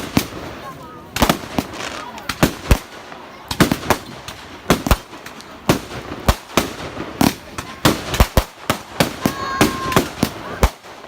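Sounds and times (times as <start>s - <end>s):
fireworks banging: 0.0s - 11.0s.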